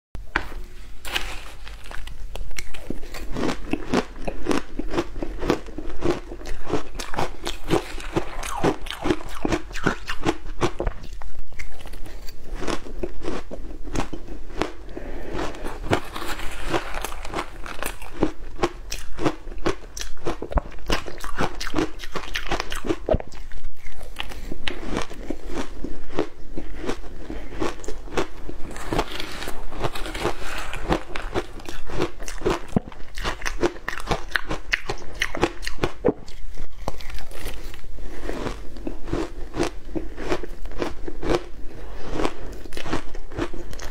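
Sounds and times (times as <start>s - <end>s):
ice being chewed crunching: 1.0s - 43.9s.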